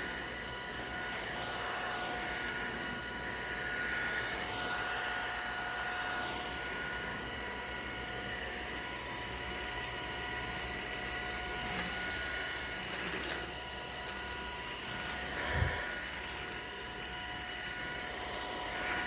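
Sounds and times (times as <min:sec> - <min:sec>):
stick vacuum motor whine: 0:00.0 - 0:19.0.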